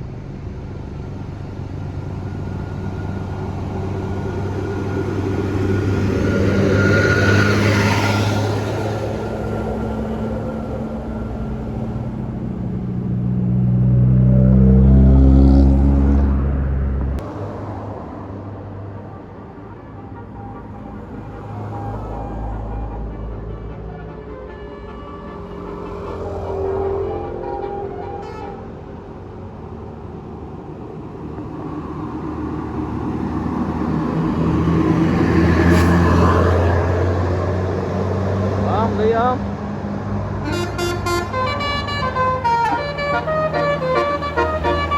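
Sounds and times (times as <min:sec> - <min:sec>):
bus engine passing by: 0:00.0 - 0:44.9.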